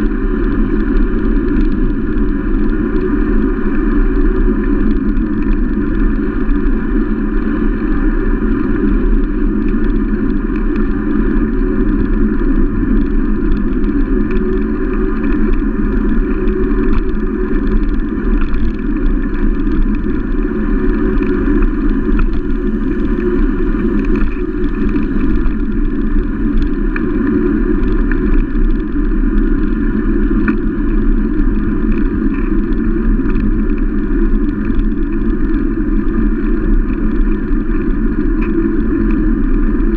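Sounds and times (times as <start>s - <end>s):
wind rush: 0.0s - 39.9s.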